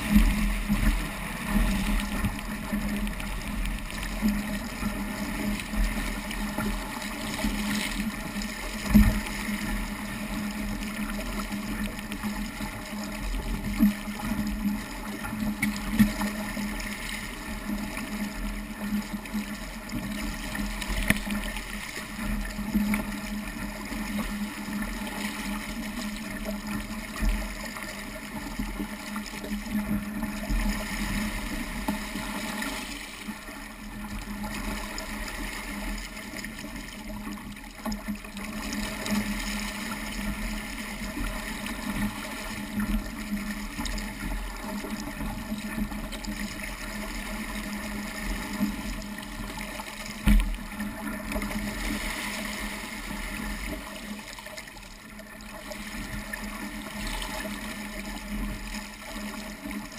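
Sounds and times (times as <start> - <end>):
water splashing along boat hull: 0.0 - 59.9.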